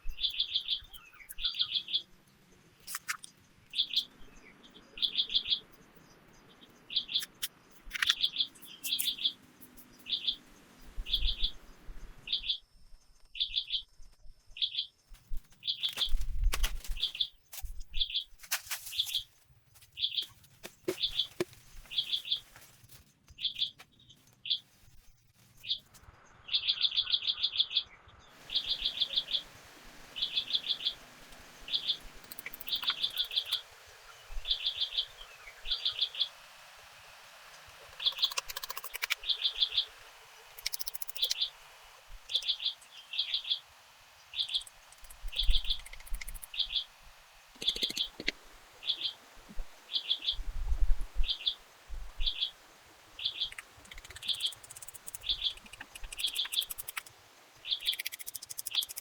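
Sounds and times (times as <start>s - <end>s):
bird chirping: 0.0s - 19.3s, 20.0s - 22.5s, 25.6s - 36.6s, 37.5s - 59.0s.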